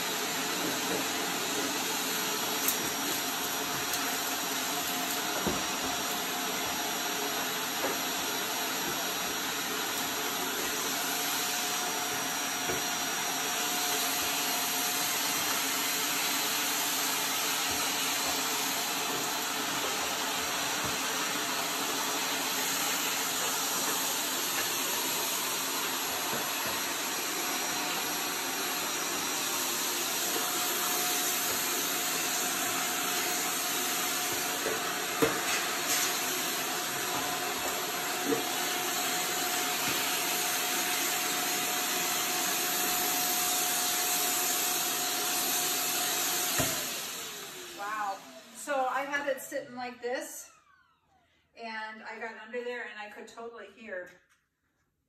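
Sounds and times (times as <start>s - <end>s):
vacuum cleaner running: 0.0s - 51.5s.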